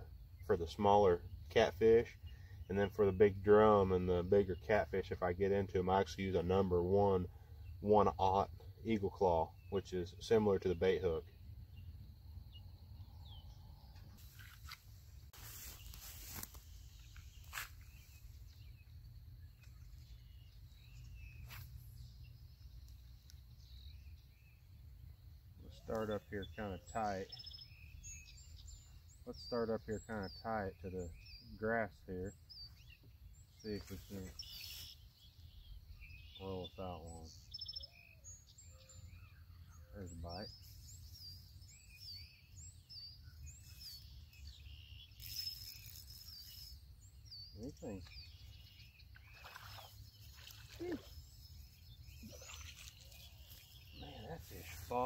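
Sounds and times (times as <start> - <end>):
faint bird chirps: 7.1 - 55.0.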